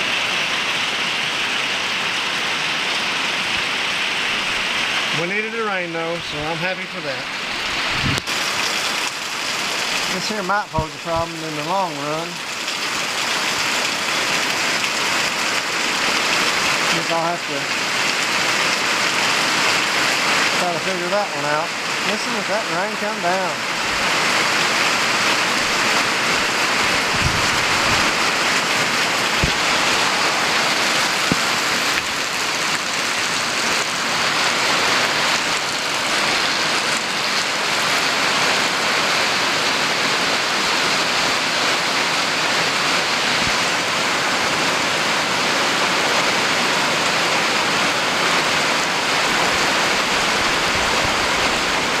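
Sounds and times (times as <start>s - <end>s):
heavy rain on a metal roof: 0.0s - 52.0s.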